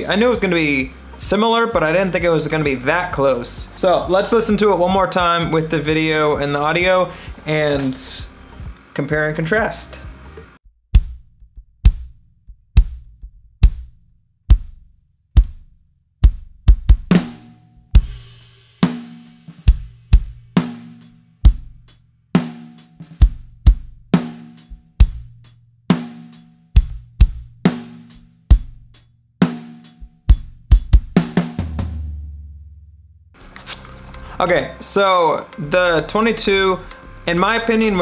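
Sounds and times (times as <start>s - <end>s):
drum kit playing a groove: 0.0s - 11.2s, 16.2s - 32.5s, 33.4s - 38.0s.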